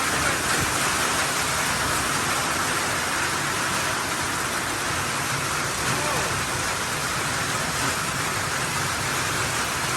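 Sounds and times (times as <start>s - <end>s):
hail and rain pelting: 0.0s - 9.9s.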